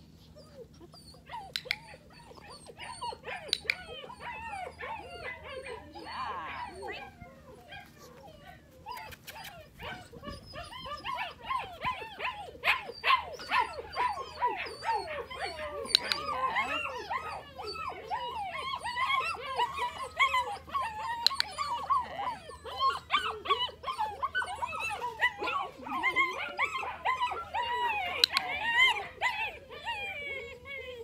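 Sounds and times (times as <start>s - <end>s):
puppies whining and yipping: 0.0s - 31.0s.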